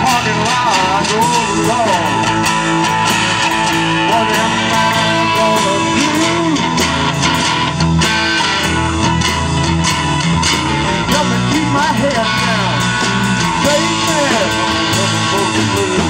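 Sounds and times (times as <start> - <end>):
live blues band playing: 0.0 - 16.0.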